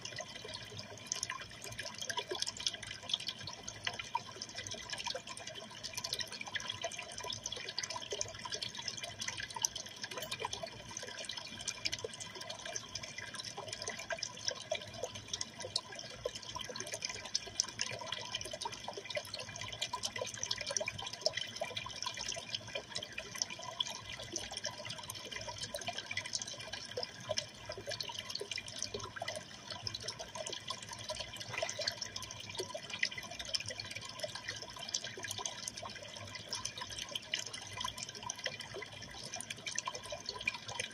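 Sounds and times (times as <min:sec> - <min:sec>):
aquarium water trickling and splashing: 0:00.0 - 0:40.9.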